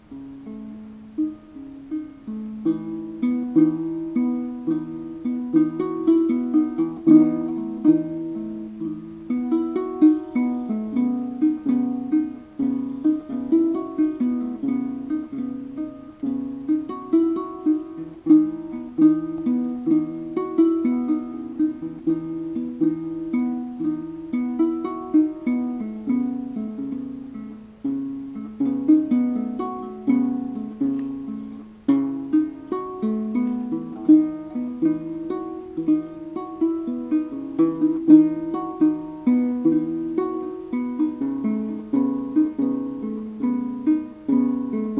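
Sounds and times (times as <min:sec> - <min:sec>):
plucked harp-lute melody: 0:00.0 - 0:44.9.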